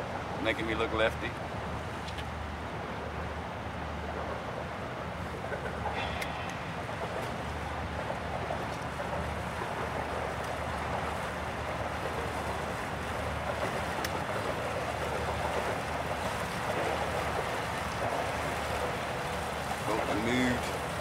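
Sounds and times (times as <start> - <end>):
water lapping around boat: 0.0 - 21.0
wind: 0.0 - 21.0.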